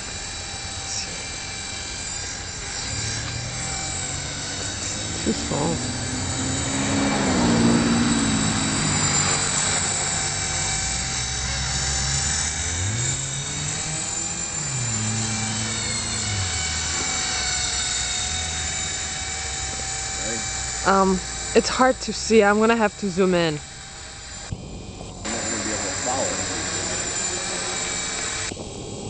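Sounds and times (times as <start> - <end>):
rc helicopter motor whine: 0.0 - 29.0.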